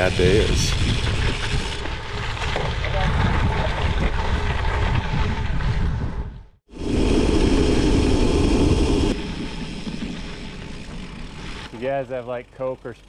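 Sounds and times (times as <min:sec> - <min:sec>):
wind rush on microphone: 0:00.0 - 0:10.8
bike tyres rumbling on dirt road: 0:00.0 - 0:12.8.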